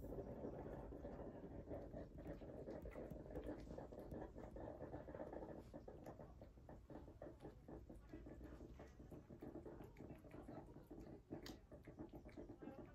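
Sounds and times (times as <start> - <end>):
cat chewing and licking: 0.0 - 12.9.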